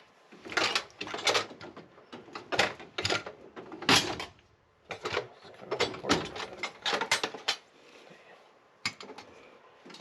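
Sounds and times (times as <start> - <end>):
knocks and clatters of parts: 0.0 - 7.7, 8.8 - 10.0.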